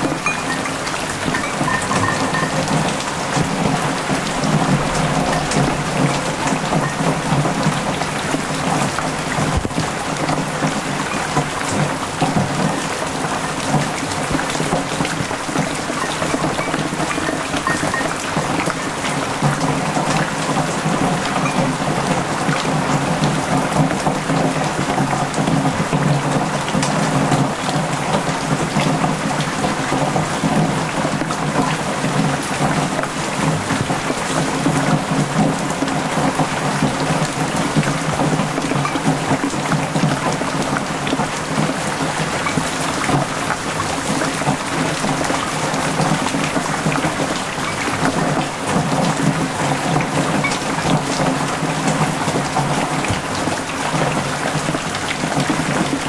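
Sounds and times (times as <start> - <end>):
heavy rain splashing into water: 0.0 - 56.0.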